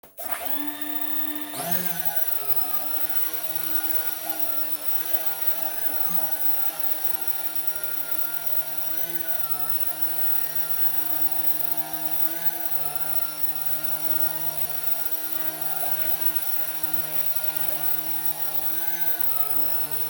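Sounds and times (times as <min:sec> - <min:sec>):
model plane electric motor whine: 0:00.2 - 0:20.0.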